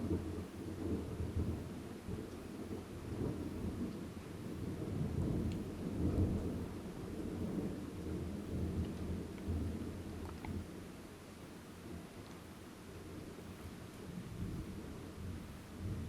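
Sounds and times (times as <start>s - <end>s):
rain: 0.0s - 16.0s.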